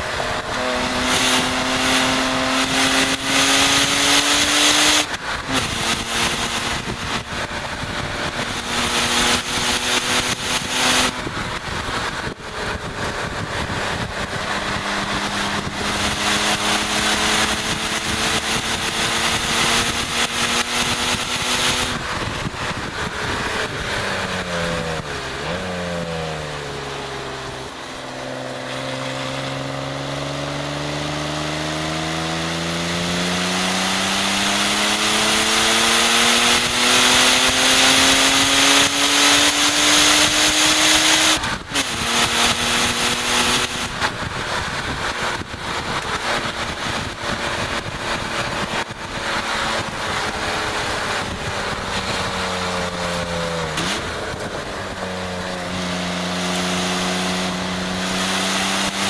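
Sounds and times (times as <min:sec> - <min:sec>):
car engine revving: 0:00.0 - 0:59.0
wind rush on microphone: 0:00.0 - 0:59.0.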